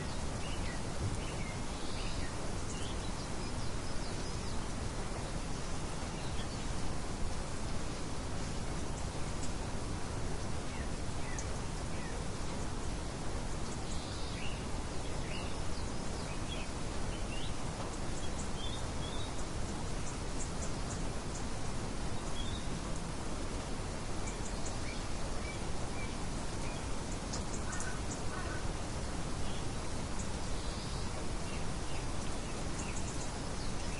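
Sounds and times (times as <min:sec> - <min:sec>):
small birds chirping: 0:00.0 - 0:33.9
steady background hiss: 0:00.0 - 0:33.9.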